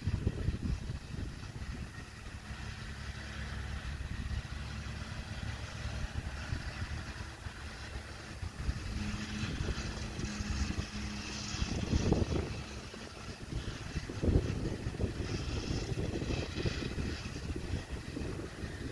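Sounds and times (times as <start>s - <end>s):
distant tractor diesel engine: 0.0s - 18.9s.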